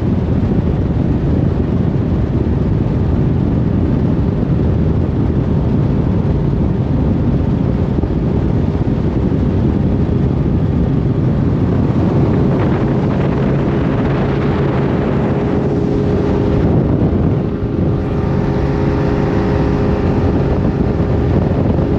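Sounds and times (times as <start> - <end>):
outboard motor droning: 0.0 - 21.9
wind buffeting microphone: 0.0 - 21.9.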